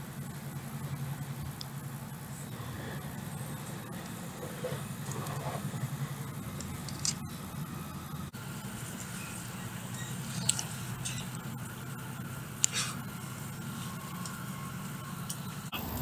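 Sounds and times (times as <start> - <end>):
train rumbling in motion: 0.0 - 16.0.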